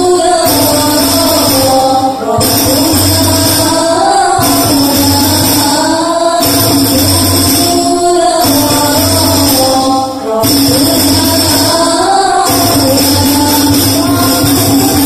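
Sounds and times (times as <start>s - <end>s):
frame drums beating: 0.0s - 15.0s
girls singing devotional song: 0.0s - 15.0s.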